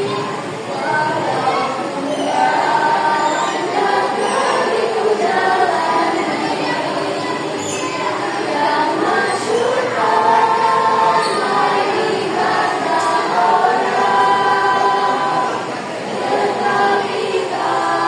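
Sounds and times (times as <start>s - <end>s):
choir singing long notes: 0.0s - 18.0s.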